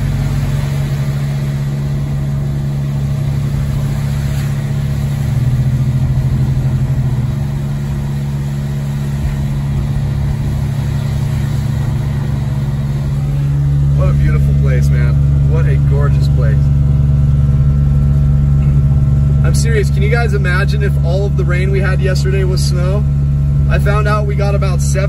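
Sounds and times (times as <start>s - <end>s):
car engine and tyre hum: 0.0s - 25.0s.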